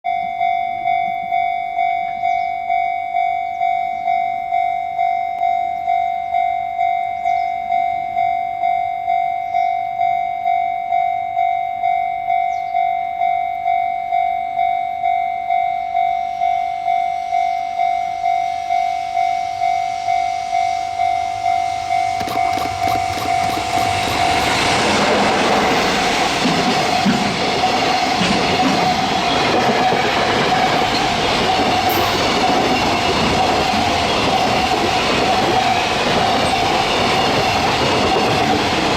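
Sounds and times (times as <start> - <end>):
level-crossing alarm bell ringing: 0.0 - 38.9
approaching freight train: 0.1 - 38.9.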